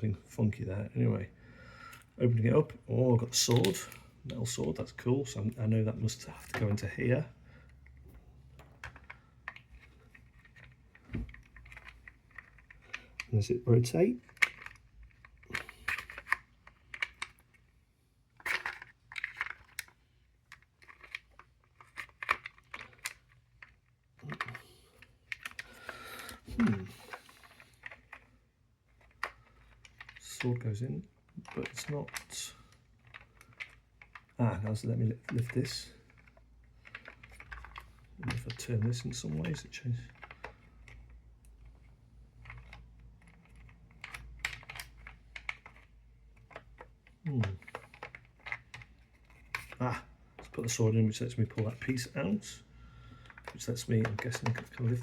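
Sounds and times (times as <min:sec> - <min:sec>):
wooden puzzle pieces clicking: 0:01.8 - 0:55.0.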